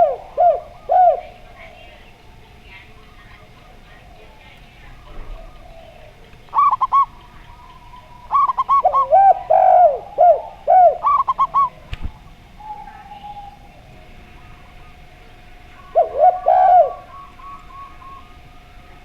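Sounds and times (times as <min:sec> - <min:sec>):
dove low arched coos: 0:00.0 - 0:19.0.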